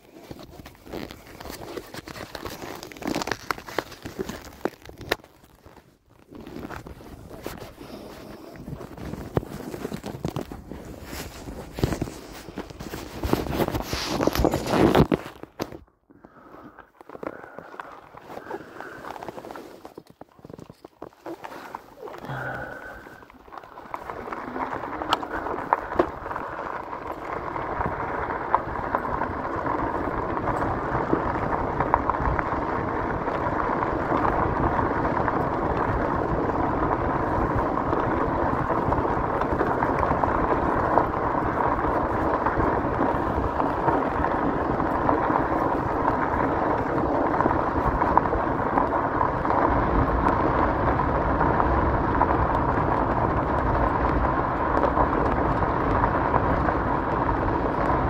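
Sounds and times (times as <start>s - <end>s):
tyres crunching over gravel: 0.0s - 58.0s
wind rumbling on microphone: 0.0s - 58.0s.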